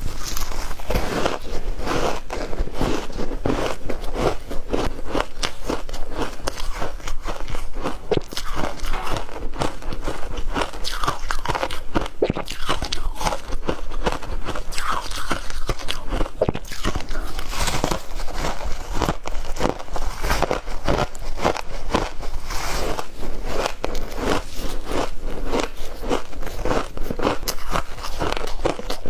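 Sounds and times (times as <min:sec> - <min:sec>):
person chewing crunchy ice: 0:00.0 - 0:29.0.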